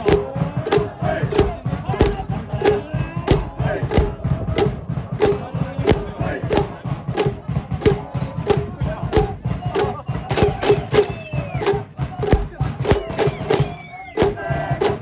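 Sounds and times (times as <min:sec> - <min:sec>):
crowd chanting in unison: 0:00.0 - 0:15.0
steady drum beat: 0:00.0 - 0:15.0.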